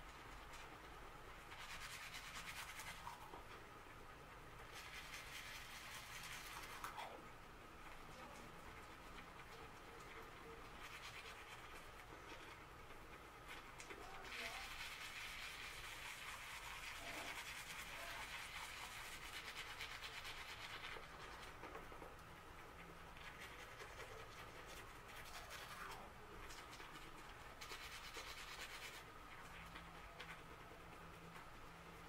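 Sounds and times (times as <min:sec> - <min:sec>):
toothbrush scrubbing teeth: 0:00.0 - 0:03.5, 0:04.6 - 0:07.2, 0:07.8 - 0:32.0.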